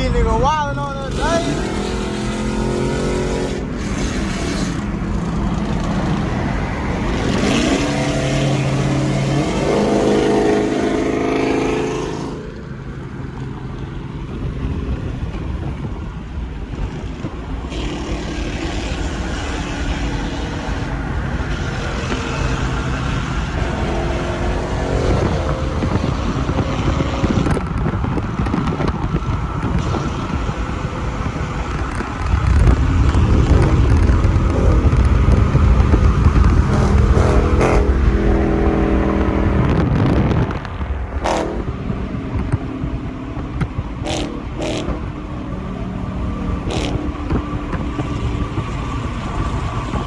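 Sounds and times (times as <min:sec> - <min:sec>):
car engine revving: 0:00.0 - 0:50.0
road noise: 0:00.0 - 0:50.0.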